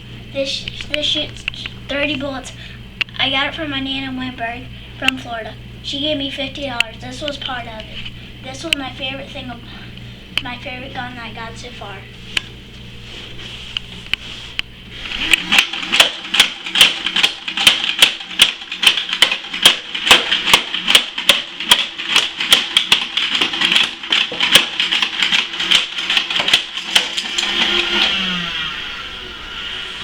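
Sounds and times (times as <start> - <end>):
steady whir: 0.0 - 30.0.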